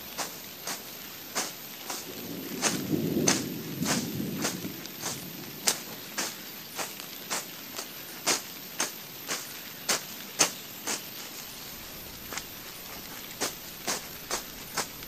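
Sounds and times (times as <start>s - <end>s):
blade swishing through grass: 0.0s - 15.0s.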